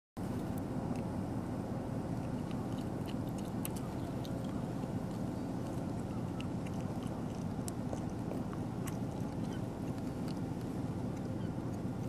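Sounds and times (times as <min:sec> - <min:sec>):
low rumble of travel over ice: 0:00.2 - 0:12.0.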